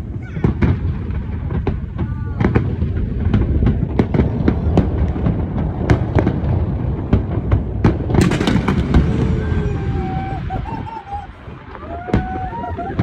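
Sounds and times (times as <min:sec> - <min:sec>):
fireworks bangs and crackles: 0:00.0 - 0:13.0
low rumble of shell bursts: 0:00.5 - 0:13.0.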